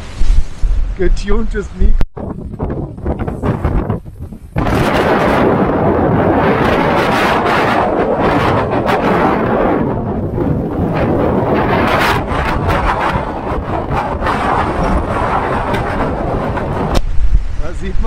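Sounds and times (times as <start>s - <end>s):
wind roaring into microphone: 0.0s - 18.0s.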